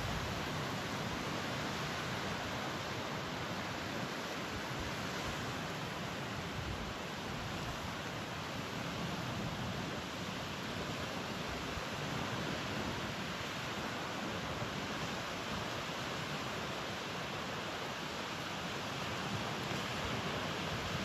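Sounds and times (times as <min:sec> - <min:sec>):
ocean surf: 0:00.0 - 0:21.0.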